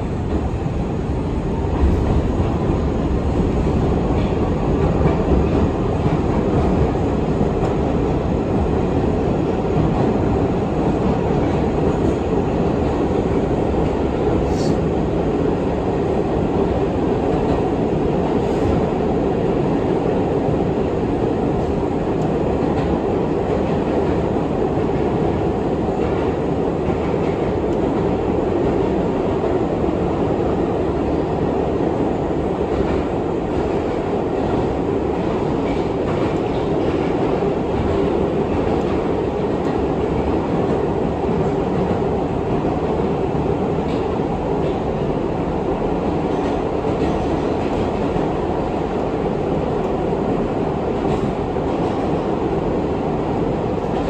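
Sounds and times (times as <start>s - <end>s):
subway wheels on rail: 0.0s - 54.0s.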